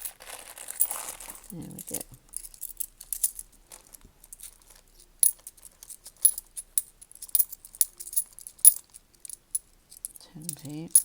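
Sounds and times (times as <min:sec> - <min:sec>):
coins clinking: 0:00.0 - 0:11.0.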